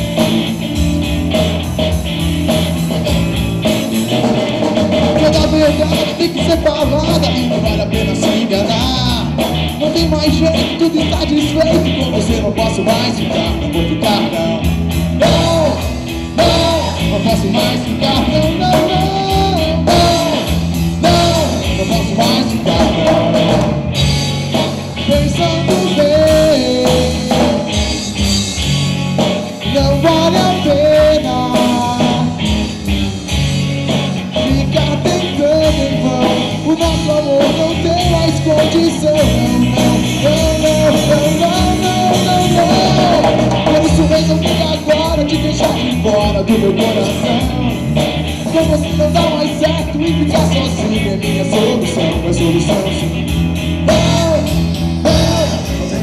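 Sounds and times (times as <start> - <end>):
live rock band: 0.0 - 56.0
melodic lead line: 0.0 - 56.0.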